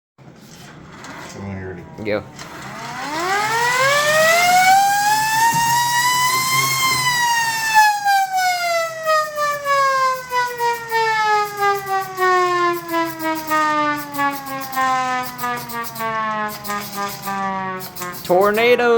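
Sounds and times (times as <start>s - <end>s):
mechanical siren wailing: 2.4s - 18.8s.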